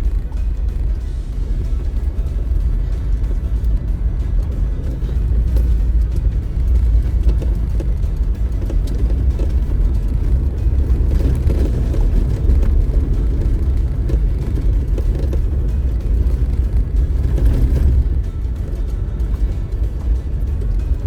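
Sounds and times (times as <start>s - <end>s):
off-road vehicle rumbling on dirt: 0.0s - 21.0s.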